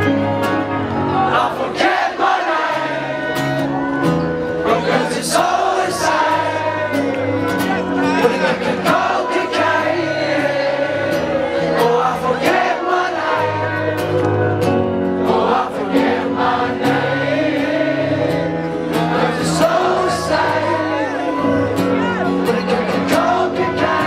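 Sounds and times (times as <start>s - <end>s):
crowd singing along: 0.0s - 24.0s
strummed acoustic guitars: 0.0s - 24.0s
man singing: 1.1s - 24.0s.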